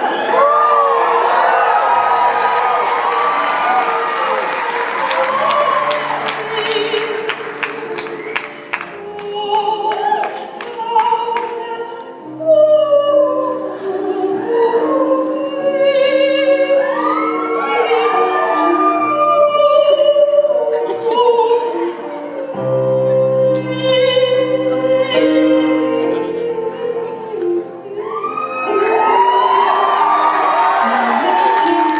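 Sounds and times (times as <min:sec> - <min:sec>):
wordless singing with vibrato: 0:00.0 - 0:31.9.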